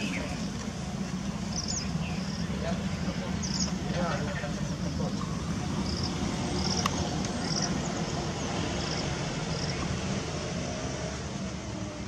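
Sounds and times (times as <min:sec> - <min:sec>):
engine idling rumble: 0:00.0 - 0:10.5.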